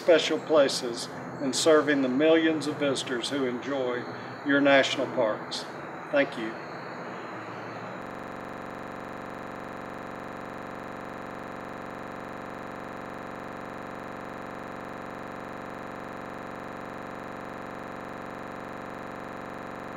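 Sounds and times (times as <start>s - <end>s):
steady electronic buzz: 1.6s - 19.9s.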